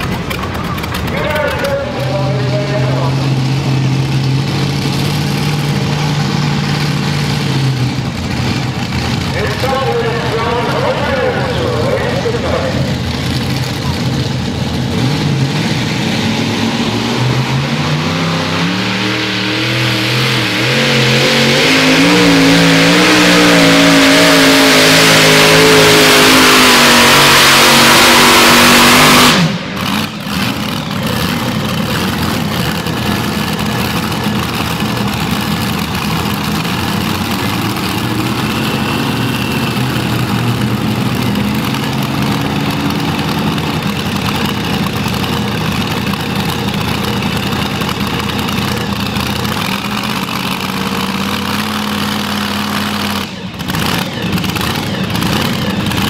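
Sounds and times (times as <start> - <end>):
pulling tractor engines at full throttle: 0.0 - 56.0.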